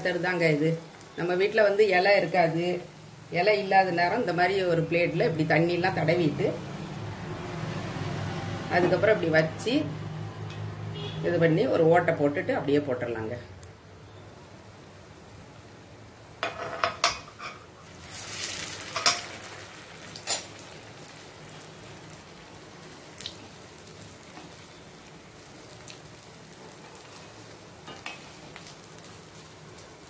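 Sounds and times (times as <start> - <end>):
food deep-frying in hot oil: 0.0 - 30.0.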